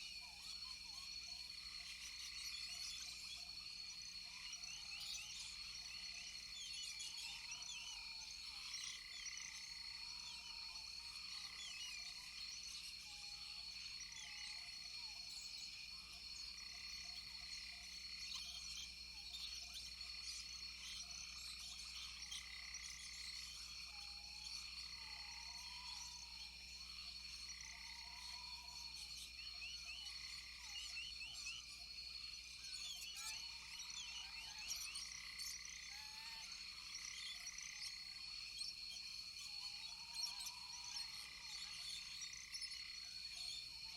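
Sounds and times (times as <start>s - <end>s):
high-pitched insect drone: 0.1s - 43.9s.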